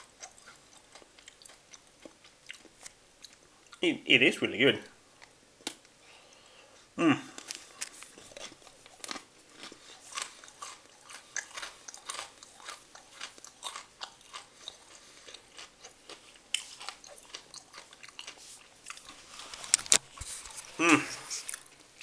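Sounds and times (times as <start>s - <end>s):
chewing crunchy candy bar: 0.0s - 3.9s, 7.3s - 22.0s.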